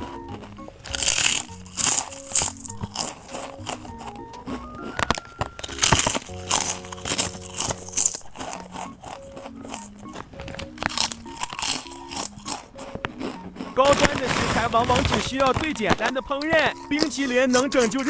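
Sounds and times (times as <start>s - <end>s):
light background music: 0.0s - 18.0s
potato chips crunching: 0.0s - 18.0s.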